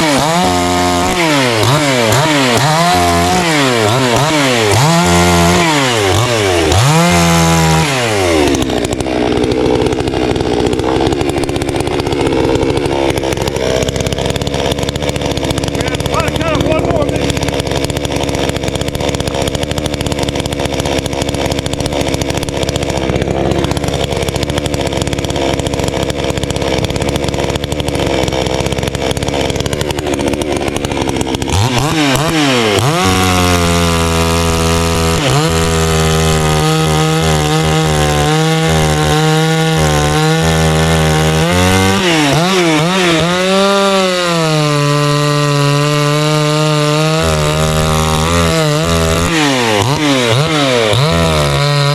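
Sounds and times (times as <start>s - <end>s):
chainsaw engine idling and revving: 0.0s - 51.9s.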